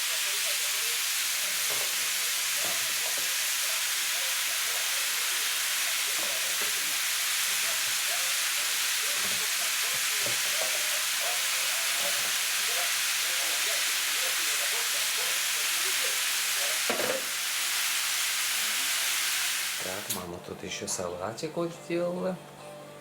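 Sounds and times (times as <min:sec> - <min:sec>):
potatoes sizzling in a pan: 0:00.0 - 0:20.3.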